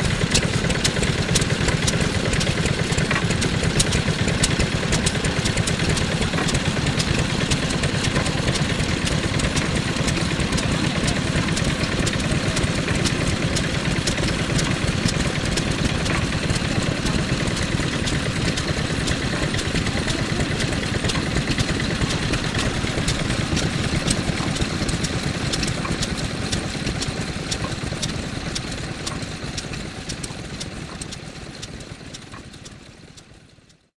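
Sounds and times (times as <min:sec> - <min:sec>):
diesel engine running: 0:00.0 - 0:33.6.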